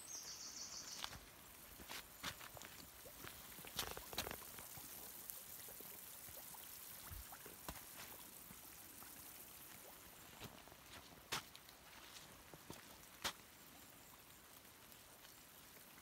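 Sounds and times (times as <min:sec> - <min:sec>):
spring water bubbling: 0:01.2 - 0:16.0.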